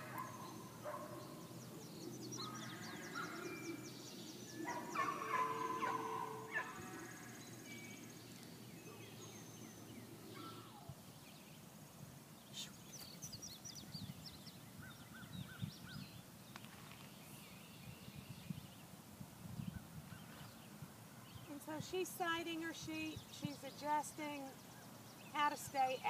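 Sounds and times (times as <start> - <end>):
distant bird calls: 0.0 - 19.0, 19.6 - 26.0.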